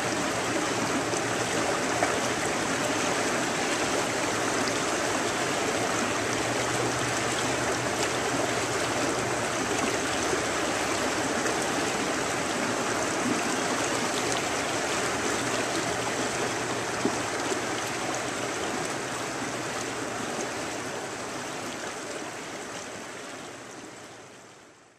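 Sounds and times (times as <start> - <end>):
river water rippling over riffles: 0.0 - 24.9.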